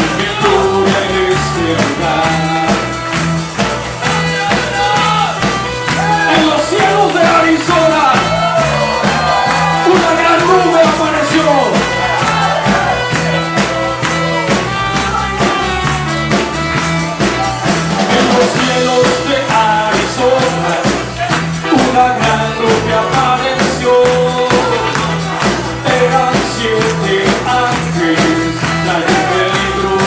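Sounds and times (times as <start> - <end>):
person singing: 0.0 - 30.0
upbeat worship band music: 0.0 - 30.0.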